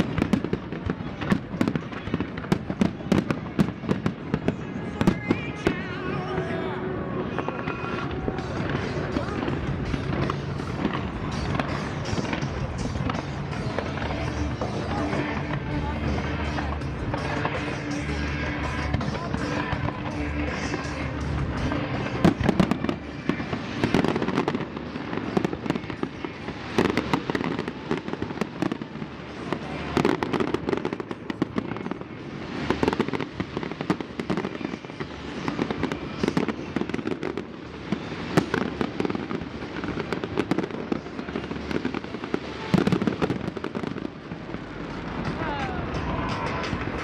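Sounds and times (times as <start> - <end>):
fireworks bangs and crackling: 0.0 - 47.0
fireworks booms: 0.0 - 47.0.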